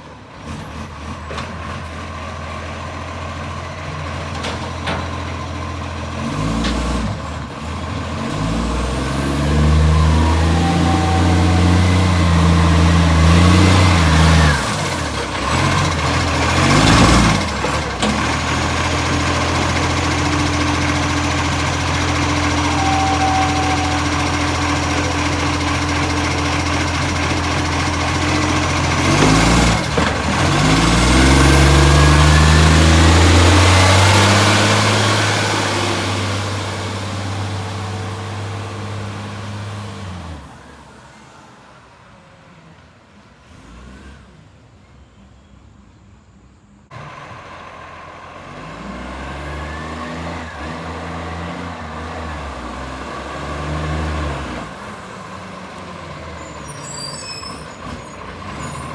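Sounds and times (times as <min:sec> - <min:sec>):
diesel engine revving and idling: 0:00.0 - 0:44.8, 0:46.9 - 0:58.9.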